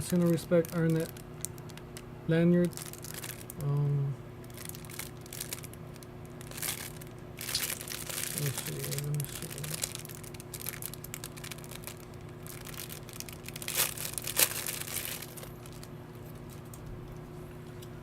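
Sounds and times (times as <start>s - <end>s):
packaging crinkling and tearing: 0.0s - 2.0s, 2.6s - 3.8s, 4.4s - 16.8s.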